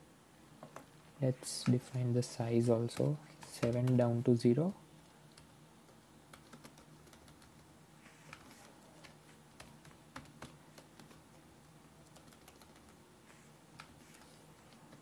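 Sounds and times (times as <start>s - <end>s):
faint keyboard typing: 0.6s - 4.3s, 5.0s - 15.0s.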